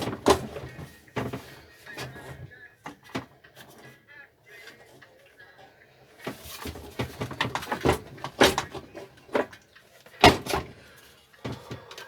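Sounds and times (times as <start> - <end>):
parts and tools knocking and clanking: 0.0 - 4.0, 6.2 - 12.0.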